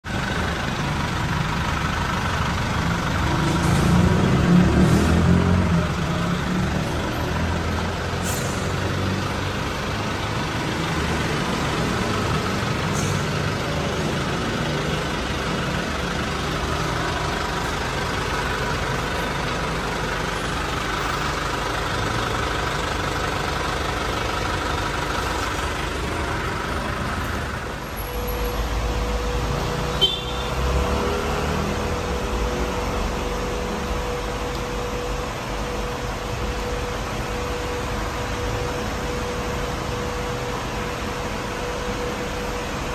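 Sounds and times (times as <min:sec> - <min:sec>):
truck engine idling: 0:00.0 - 0:42.9.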